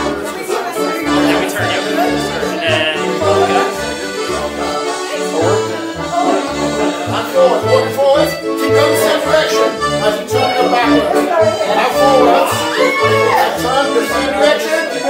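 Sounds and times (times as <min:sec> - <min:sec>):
piano accordion dance tune: 0:00.0 - 0:15.0.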